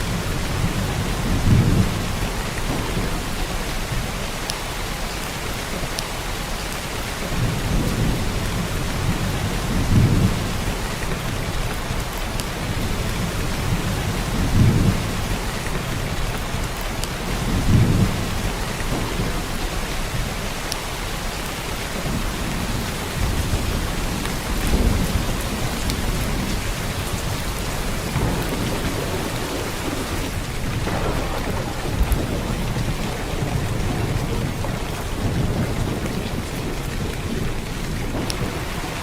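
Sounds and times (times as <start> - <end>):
heavy rain on surfaces: 0.0 - 39.0.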